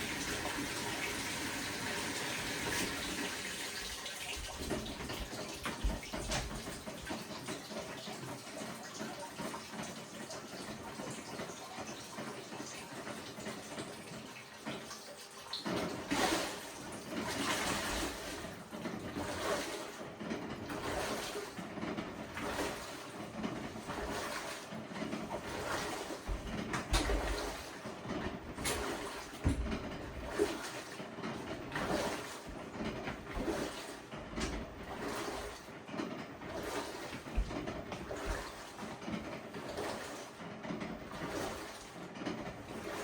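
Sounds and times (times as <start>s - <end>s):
washing machine water sloshing: 0.0s - 43.0s.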